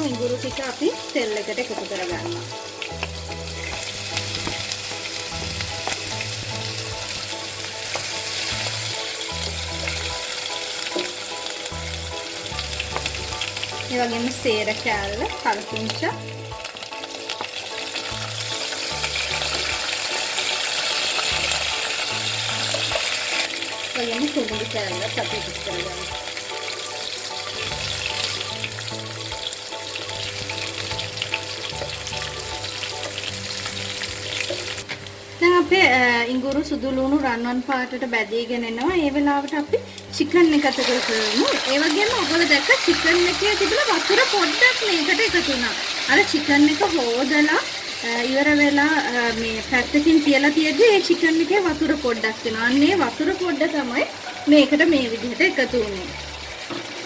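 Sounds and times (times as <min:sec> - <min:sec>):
garlic sizzling in hot oil: 0:00.0 - 0:57.0
quiet background music: 0:00.0 - 0:57.0.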